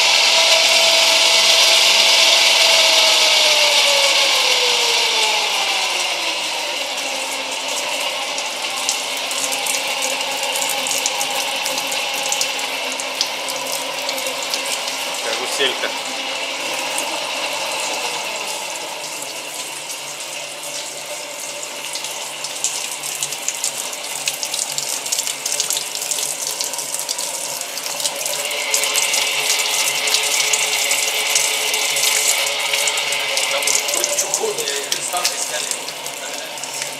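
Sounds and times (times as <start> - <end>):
electric drive humming: 0.0 - 36.9.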